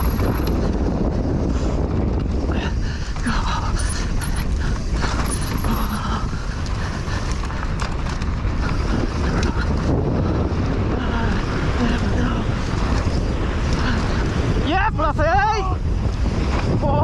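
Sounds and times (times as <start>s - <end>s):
bike rattling over stones: 0.0s - 17.0s
bike tyres on rocky dirt: 0.0s - 17.0s
wind on microphone: 0.0s - 17.0s.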